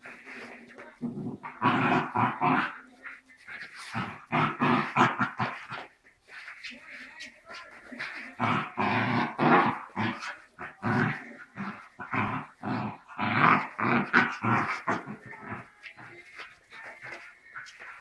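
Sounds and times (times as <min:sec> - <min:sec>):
small dogs growling: 0:00.0 - 0:05.9, 0:07.8 - 0:17.9.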